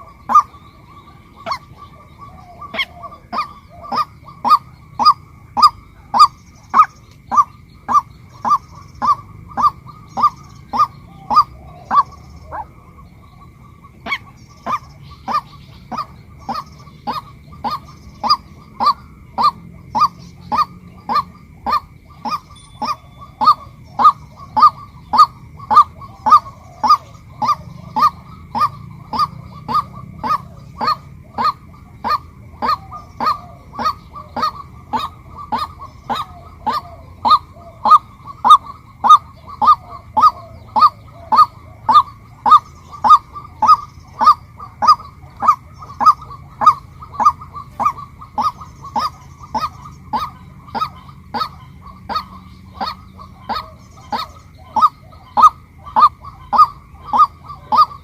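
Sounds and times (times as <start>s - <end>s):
waterhen honking calls: 0.0s - 58.0s.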